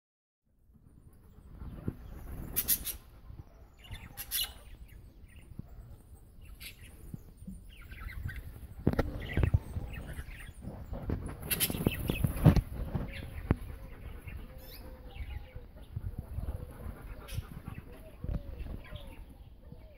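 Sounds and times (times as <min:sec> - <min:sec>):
birds chirping and chattering: 0:00.7 - 0:19.9.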